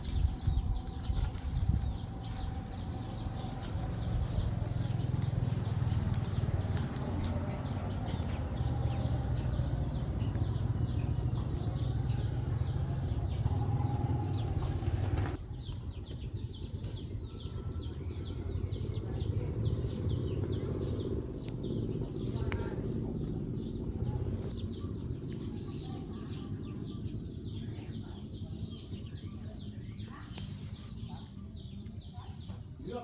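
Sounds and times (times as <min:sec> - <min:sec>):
bird chirping: 0:00.0 - 0:33.0
low rumbling background noise: 0:00.0 - 0:33.0.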